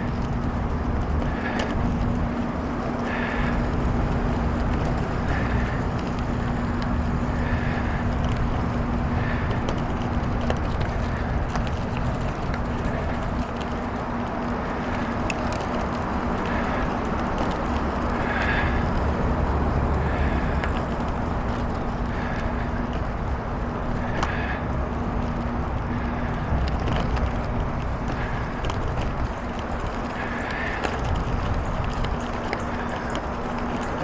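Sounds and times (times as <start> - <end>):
bicycle tyres rolling on gravel: 0.0 - 34.0
small clicks and rattles: 0.0 - 34.0.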